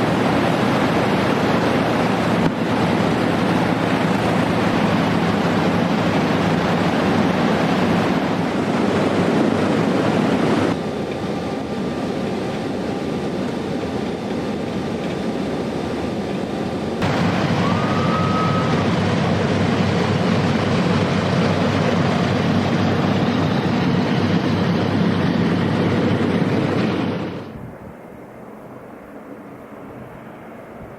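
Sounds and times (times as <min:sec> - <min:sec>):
piston aircraft engines droning: 0:00.0 - 0:30.9.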